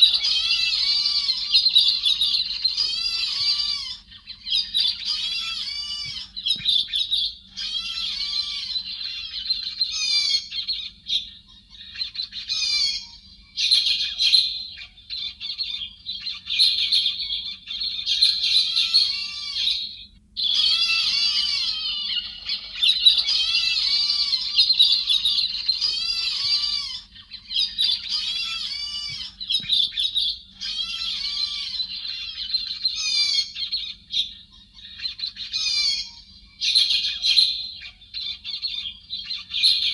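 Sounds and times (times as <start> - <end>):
birds chattering calls: 0.0 - 39.9
faint low hum: 0.0 - 39.9.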